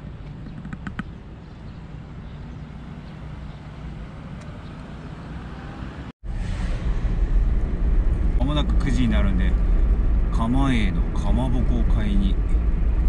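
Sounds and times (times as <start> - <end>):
road and engine rumble inside van: 0.0 - 13.0
road traffic hum: 0.0 - 13.0.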